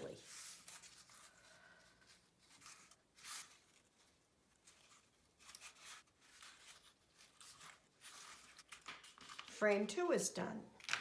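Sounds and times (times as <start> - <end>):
cardstock rubbing and rustling: 0.0 - 9.7.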